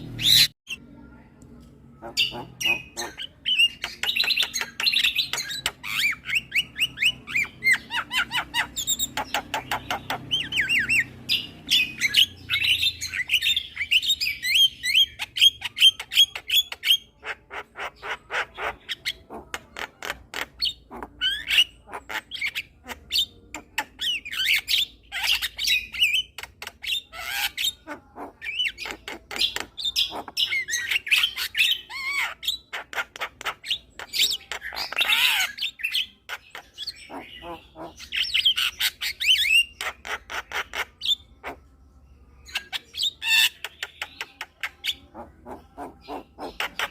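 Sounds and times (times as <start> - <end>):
myna bird clicks and chatter: 0.0 - 46.9.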